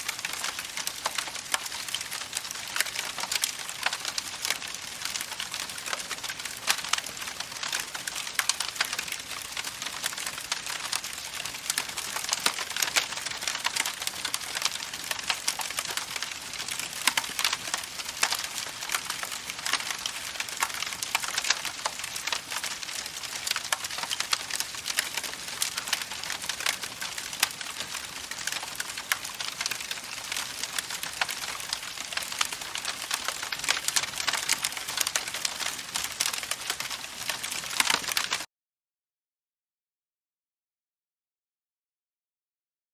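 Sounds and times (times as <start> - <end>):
campfire crackling: 0.0 - 38.5.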